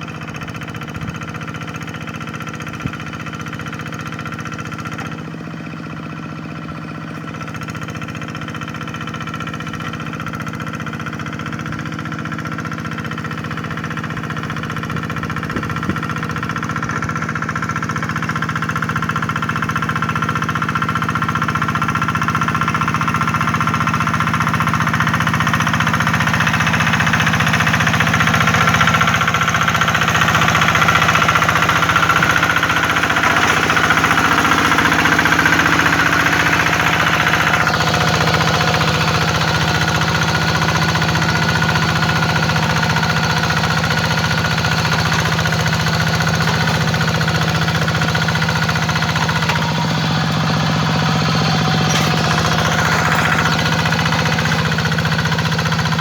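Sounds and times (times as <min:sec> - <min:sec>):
hand tractor engine running: 0:06.9 - 0:56.0.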